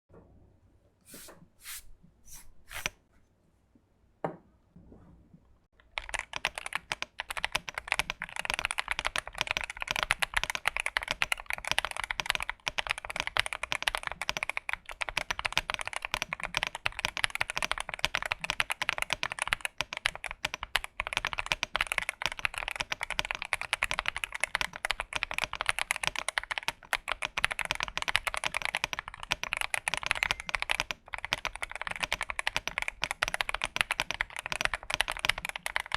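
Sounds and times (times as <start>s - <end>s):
fast typing on mechanical keyboard: 5.8s - 35.9s.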